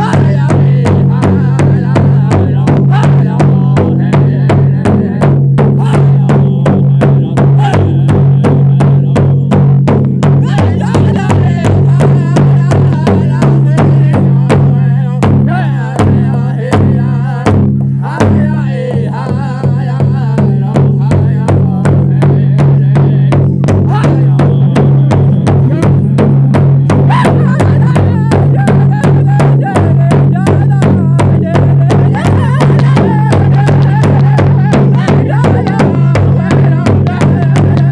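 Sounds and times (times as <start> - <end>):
big hand drum beat: 0.0 - 37.9
singers chanting: 0.0 - 37.9.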